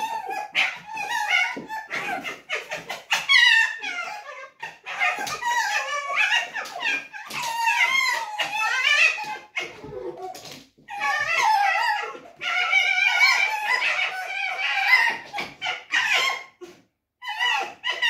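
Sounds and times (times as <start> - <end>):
foxes whining and yipping: 0.0 - 18.0.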